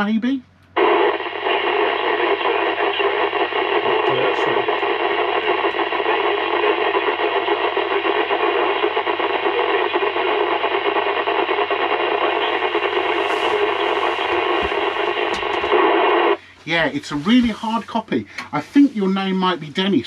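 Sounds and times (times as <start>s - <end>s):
radio interference noise with tones: 0.8s - 18.0s
weak radio station signal: 0.8s - 20.0s.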